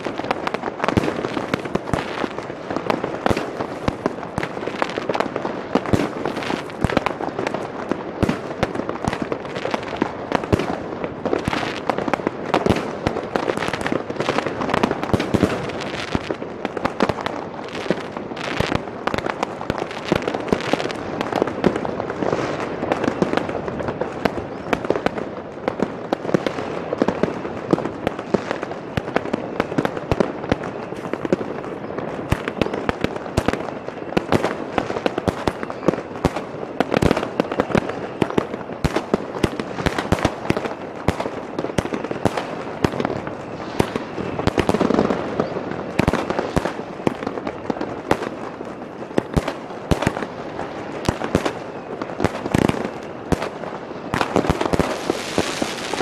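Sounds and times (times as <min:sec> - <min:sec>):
distant fireworks: 0:00.0 - 0:56.0
firework bangs: 0:00.0 - 0:56.0
firework crackling sparks: 0:00.0 - 0:56.0.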